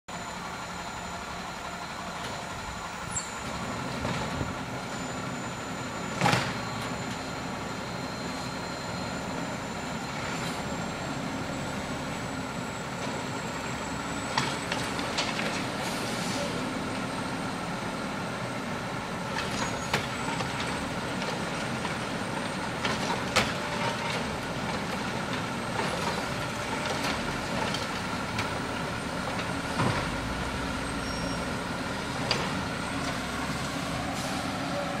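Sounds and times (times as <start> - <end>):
garbage truck engine running: 0.1 - 35.0.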